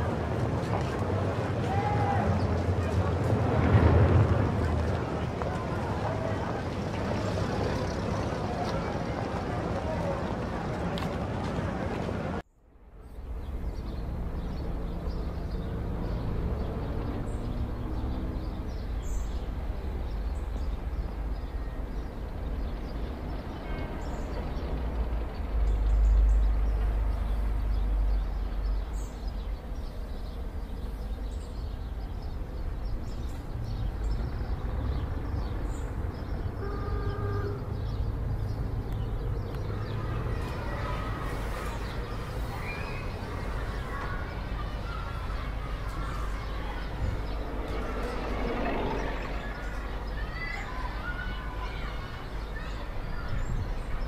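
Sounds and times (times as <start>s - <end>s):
traffic rumble: 0.0s - 54.0s.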